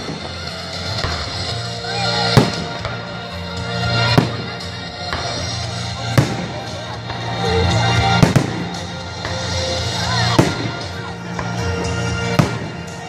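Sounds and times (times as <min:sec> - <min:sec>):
music playing: 0:00.0 - 0:13.0.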